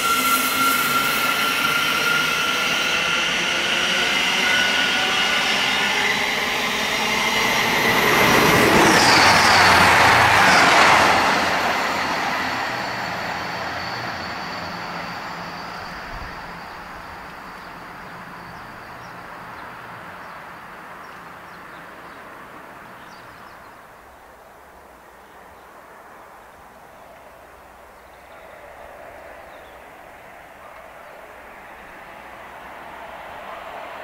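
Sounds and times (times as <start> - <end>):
train passing: 0.0 - 34.0.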